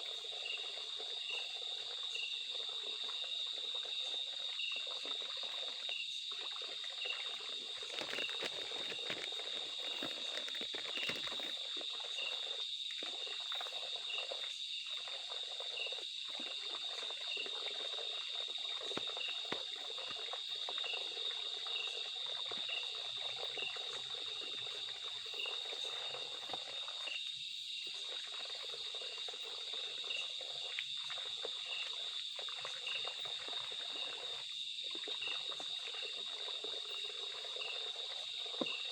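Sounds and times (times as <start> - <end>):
regular insect chirp: 0.0 - 38.9
trickling water: 0.0 - 38.9.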